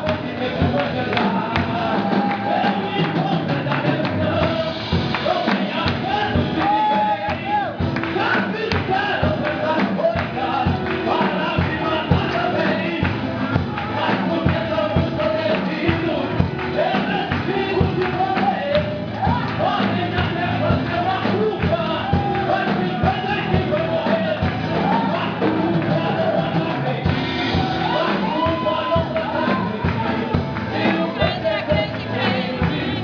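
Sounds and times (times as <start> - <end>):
congregation singing over beat: 0.0 - 33.0.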